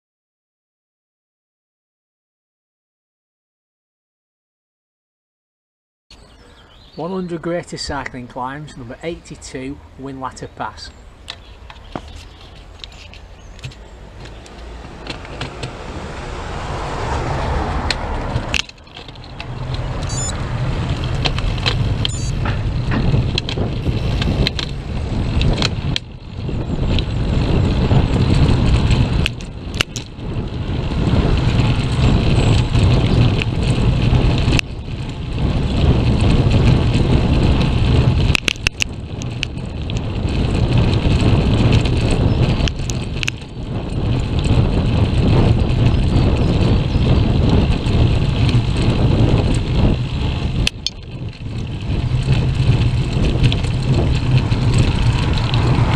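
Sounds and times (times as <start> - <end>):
road noise: 6.1 - 55.9
bike clicks and rattles: 6.2 - 55.9
wind rumble on microphone: 6.2 - 55.9.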